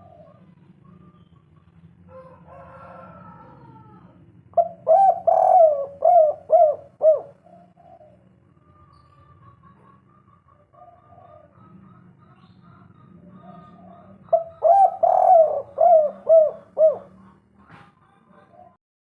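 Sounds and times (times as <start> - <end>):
dove cooing: 0.0 - 1.2, 2.1 - 18.8.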